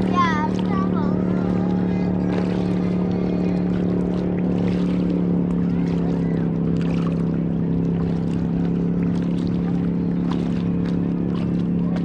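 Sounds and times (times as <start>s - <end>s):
paddles splashing in water: 0.0s - 12.0s
steady low hum: 0.0s - 12.0s.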